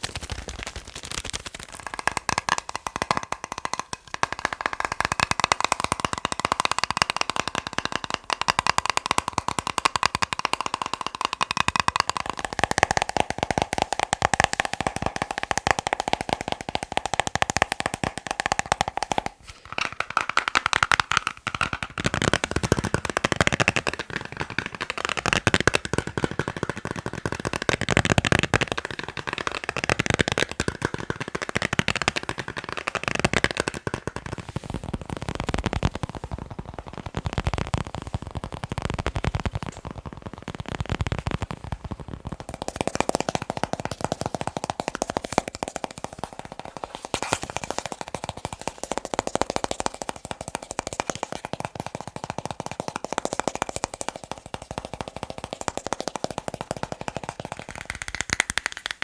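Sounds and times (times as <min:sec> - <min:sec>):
fast tapping on objects: 0:00.0 - 0:59.0.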